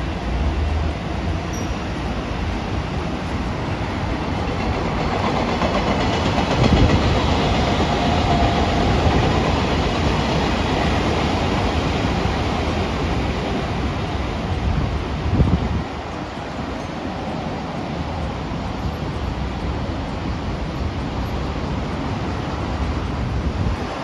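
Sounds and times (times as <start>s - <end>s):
train wheels rushing on rails: 0.0s - 24.0s.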